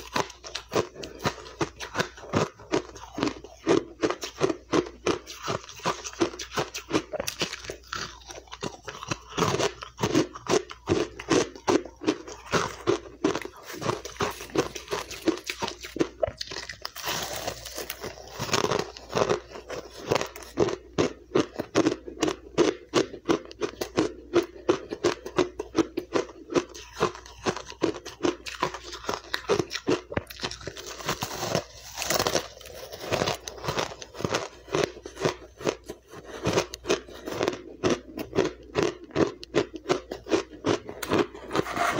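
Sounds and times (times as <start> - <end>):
crunching and chewing ice: 0.0 - 41.9.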